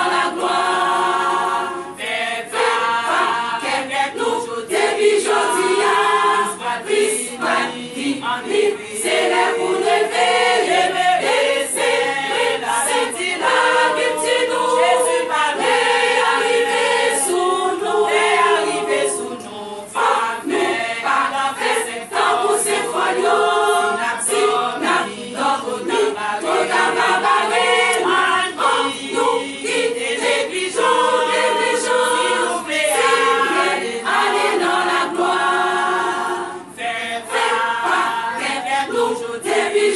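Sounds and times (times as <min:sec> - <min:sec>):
women's choir singing a hymn: 0:00.0 - 0:39.9.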